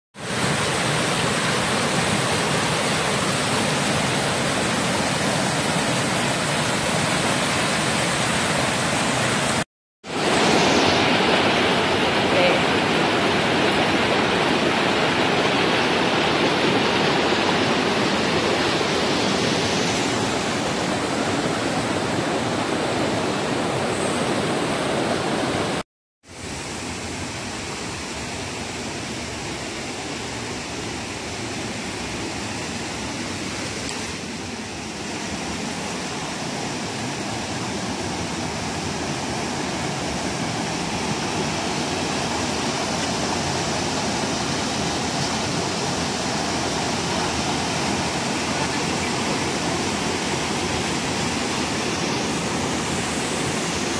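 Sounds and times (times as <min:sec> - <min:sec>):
mountain stream rushing over boulders: 0:00.2 - 0:53.9.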